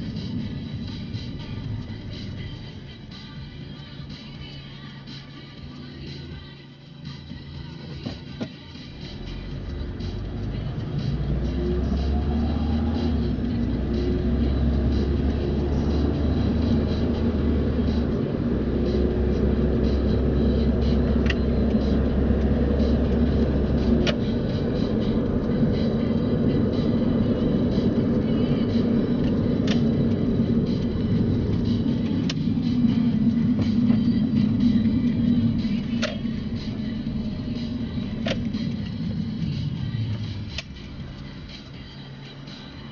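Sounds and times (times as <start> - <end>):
car engine and tyre noise: 0.0 - 42.9
low hum: 0.0 - 42.9.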